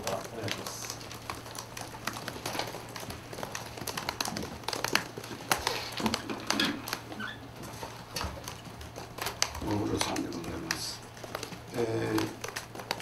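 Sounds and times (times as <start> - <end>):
clicks and taps: 0.0 - 13.0
paper being handled: 0.0 - 13.0
steady low hum: 0.0 - 13.0.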